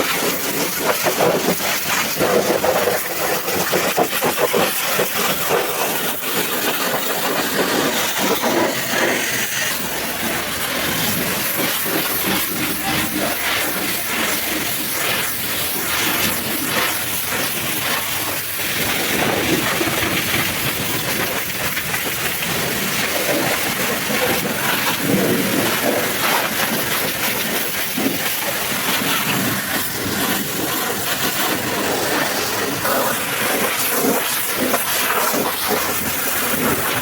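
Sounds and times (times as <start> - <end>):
pressure washer spraying: 0.0 - 37.0.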